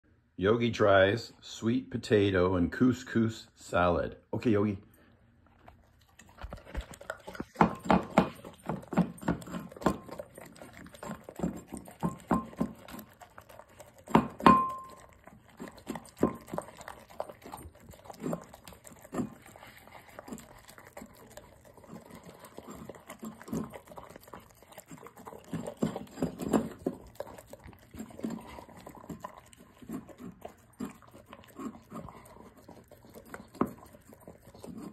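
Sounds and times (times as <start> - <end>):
dog licking and chewing: 5.0 - 34.9.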